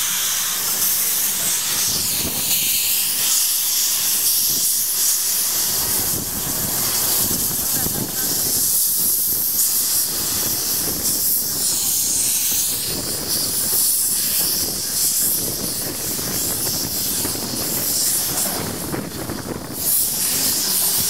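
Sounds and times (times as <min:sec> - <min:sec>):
steam locomotive venting steam: 0:00.0 - 0:21.0.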